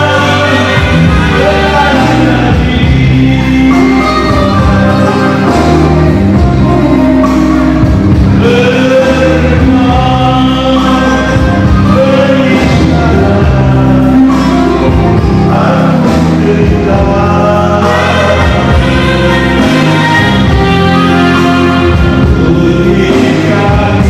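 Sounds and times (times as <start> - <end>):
instrumental accompaniment: 0.0 - 24.0
man singing into microphone: 0.0 - 24.0.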